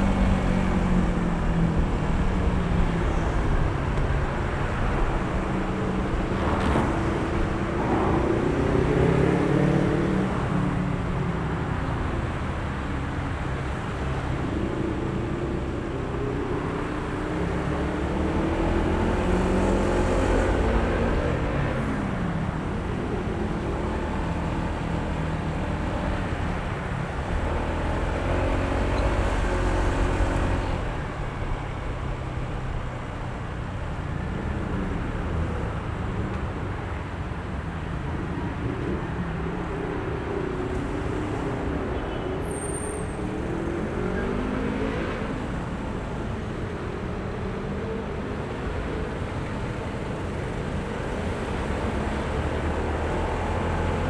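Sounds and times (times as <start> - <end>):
road and wind rumble: 0.0 - 54.0.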